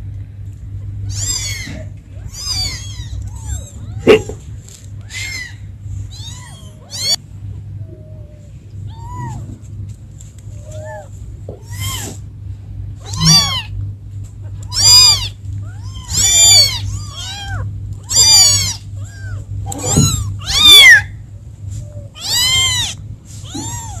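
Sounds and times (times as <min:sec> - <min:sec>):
kittens meowing: 0:00.8 - 0:04.4, 0:05.0 - 0:07.2, 0:07.8 - 0:09.7, 0:10.5 - 0:12.2, 0:13.0 - 0:13.8, 0:14.5 - 0:24.0.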